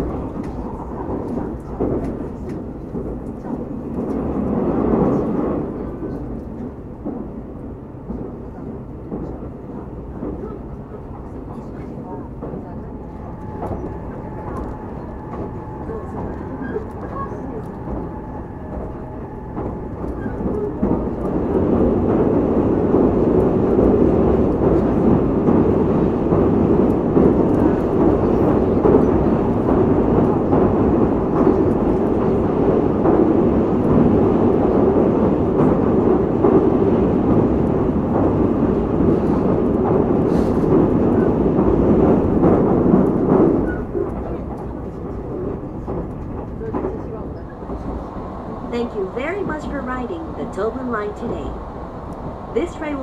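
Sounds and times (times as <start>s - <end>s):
train rumbling over bridge: 0.0s - 53.0s.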